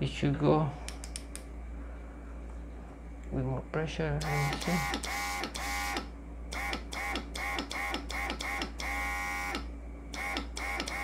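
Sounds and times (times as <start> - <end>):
compressor low hum: 0.0 - 11.0.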